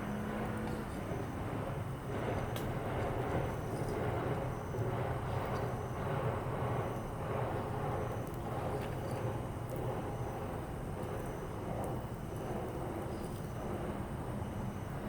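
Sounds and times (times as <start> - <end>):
fire low rumble: 0.1 - 15.0.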